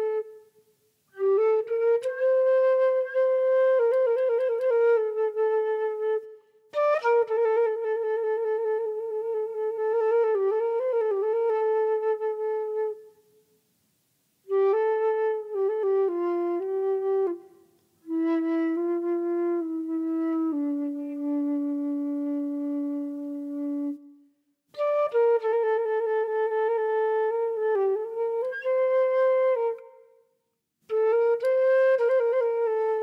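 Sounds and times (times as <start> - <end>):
solo flute melody: 0.0 - 13.5, 14.4 - 33.0.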